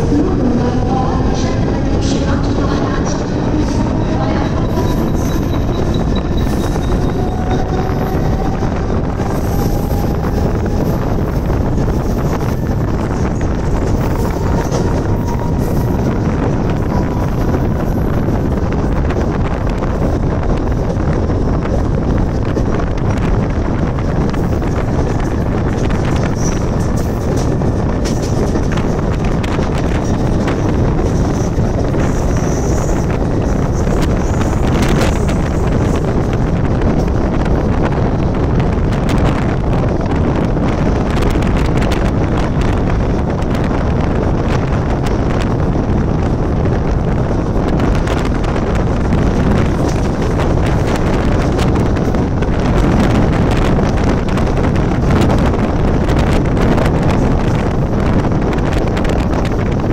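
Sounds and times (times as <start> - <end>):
train wheels rumbling: 0.0 - 59.9
wind buffeting microphone: 0.0 - 59.9.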